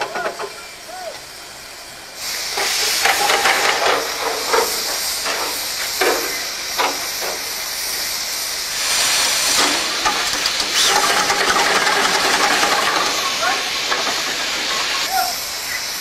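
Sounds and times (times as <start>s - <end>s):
steam crane hissing: 0.0s - 16.0s
sharp steam puffs: 0.4s - 16.0s.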